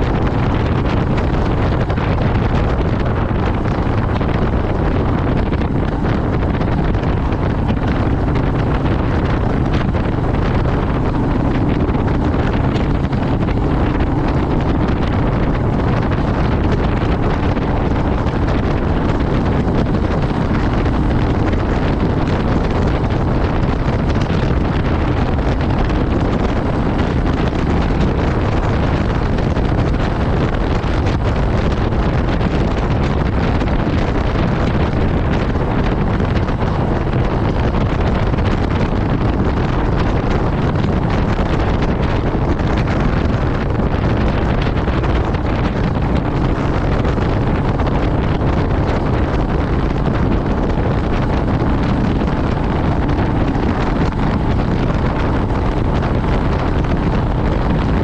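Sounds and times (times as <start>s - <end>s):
motorcycle engine: 0.0s - 58.0s
wind rush over microphone: 0.0s - 58.0s.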